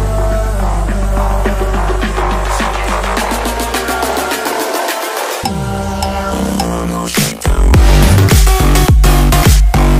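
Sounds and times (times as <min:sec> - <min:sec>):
electronic music: 0:00.0 - 0:09.9.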